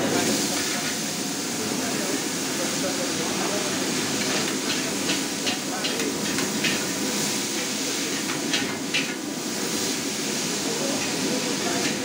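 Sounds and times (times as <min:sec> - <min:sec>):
wok hissing with steam: 0:00.0 - 0:12.0.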